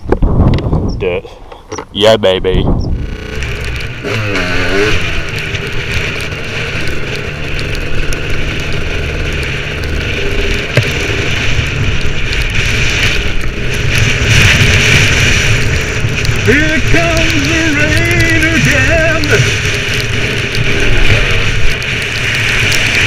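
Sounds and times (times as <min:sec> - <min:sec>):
two-stroke trail bike engine: 0:02.8 - 0:23.0.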